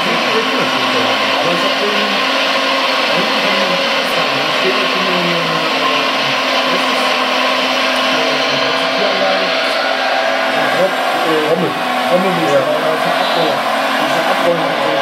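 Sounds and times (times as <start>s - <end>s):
excavator engine noise: 0.0s - 15.0s
hydraulic pump whirring: 0.0s - 15.0s.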